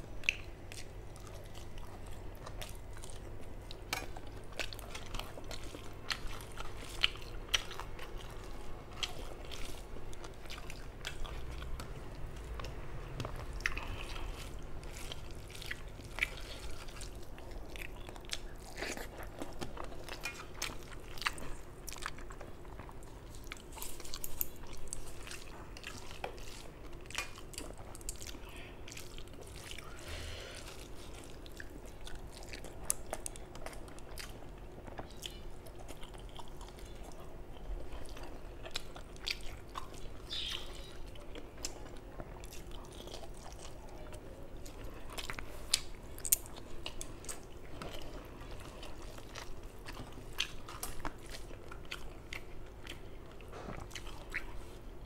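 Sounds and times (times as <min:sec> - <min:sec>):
chewing with wet clicks: 0:00.0 - 0:55.0
eating rice by hand: 0:00.1 - 0:55.0.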